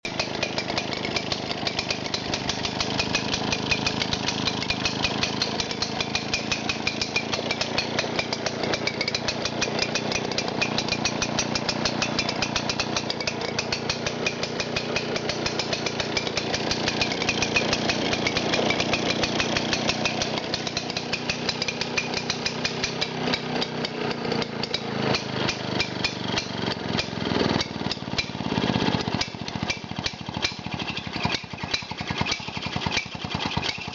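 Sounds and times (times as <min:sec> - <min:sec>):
two-stroke mower engine running: 0:00.0 - 0:33.9.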